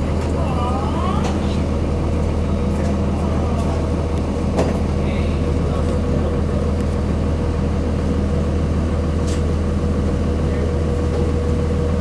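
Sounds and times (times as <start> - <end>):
diesel bus engine droning: 0.0 - 12.0.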